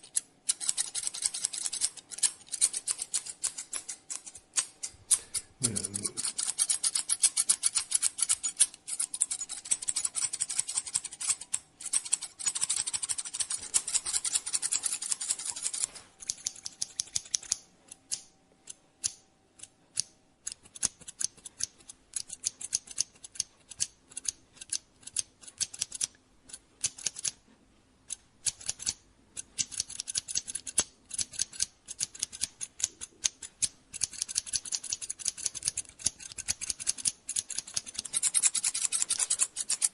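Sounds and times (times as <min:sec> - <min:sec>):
scissors snipping hair: 0:00.0 - 0:27.4, 0:28.1 - 0:39.9.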